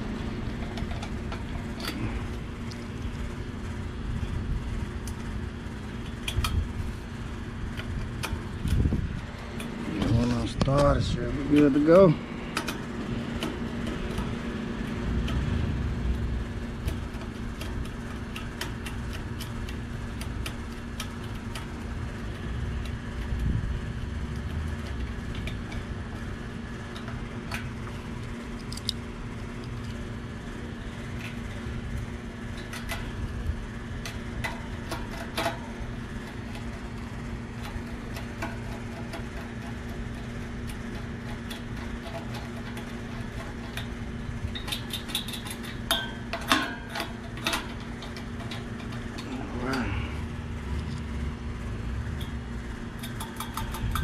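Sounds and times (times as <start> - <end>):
air conditioning hum: 0.0 - 54.0.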